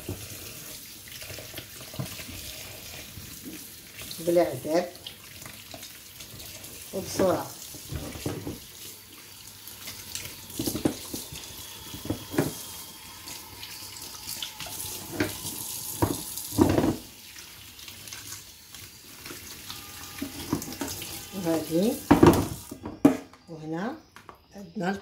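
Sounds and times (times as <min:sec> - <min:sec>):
tap running water: 0:00.0 - 0:23.2.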